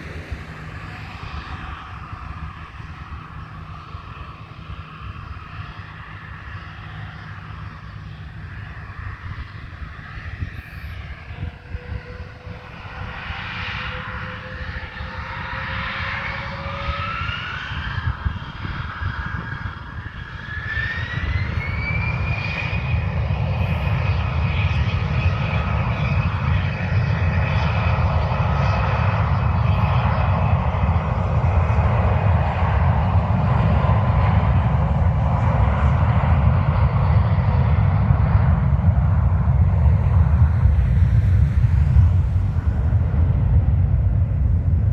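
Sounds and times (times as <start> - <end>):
jet engines spooling up: 0.0 - 44.9.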